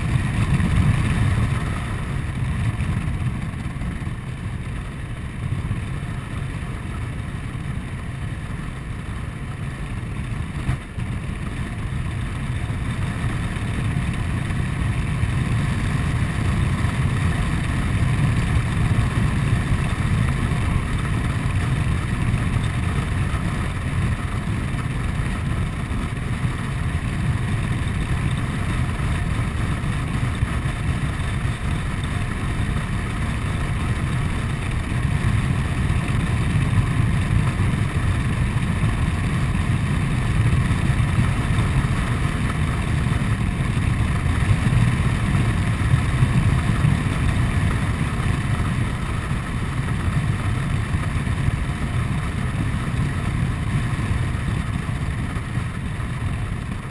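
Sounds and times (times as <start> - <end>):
scooter engine running: 0.0 - 56.9
wind and road noise: 0.0 - 56.9.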